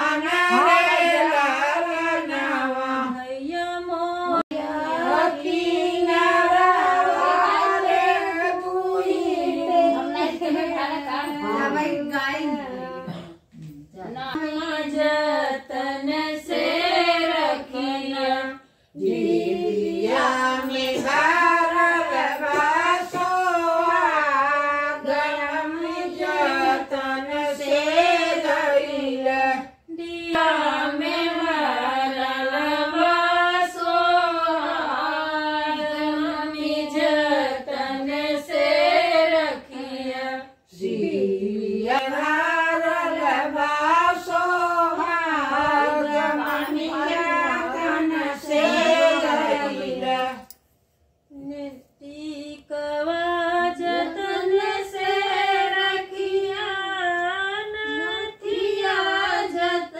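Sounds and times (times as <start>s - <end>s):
women singing a folk song: 0.0s - 50.6s, 51.2s - 59.9s.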